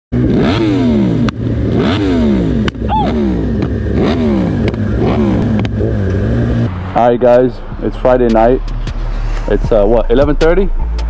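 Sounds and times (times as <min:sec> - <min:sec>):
motorcycle engine revving: 0:00.1 - 0:10.9.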